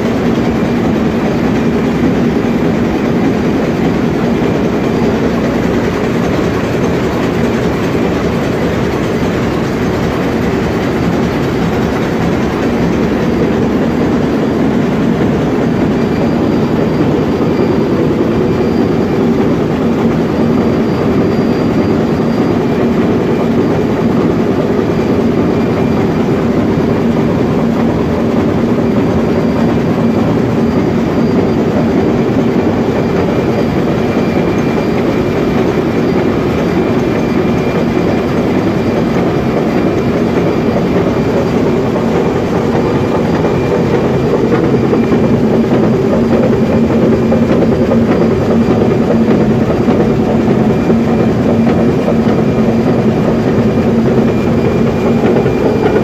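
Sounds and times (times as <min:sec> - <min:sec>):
marine diesel engine running: 0:00.0 - 0:56.0.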